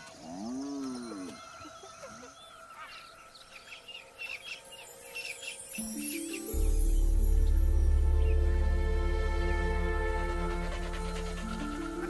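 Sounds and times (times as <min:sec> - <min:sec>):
birds chirping: 0:00.0 - 0:08.8, 0:10.2 - 0:12.0.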